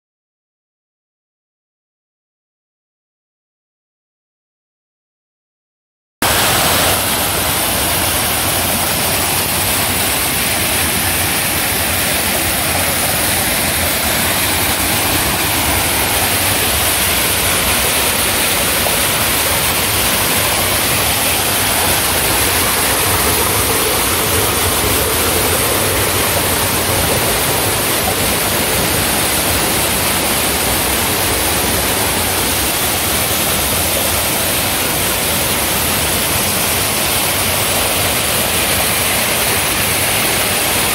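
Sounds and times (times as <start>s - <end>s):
waterfalls pouring over rock: 6.2s - 40.9s.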